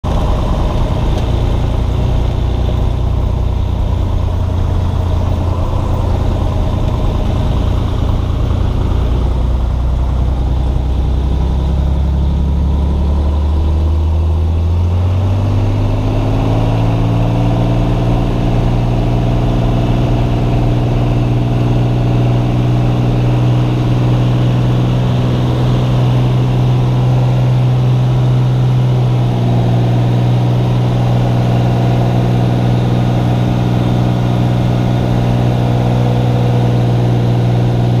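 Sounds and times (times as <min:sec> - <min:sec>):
propeller aircraft engine: 0:00.0 - 0:38.0.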